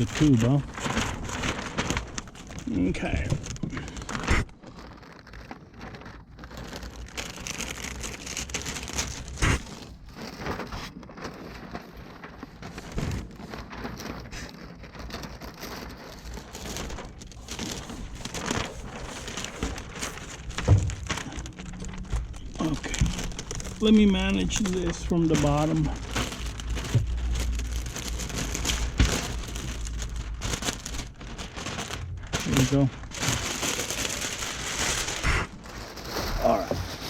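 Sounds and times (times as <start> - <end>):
plastic film crinkling: 0.0 - 37.0.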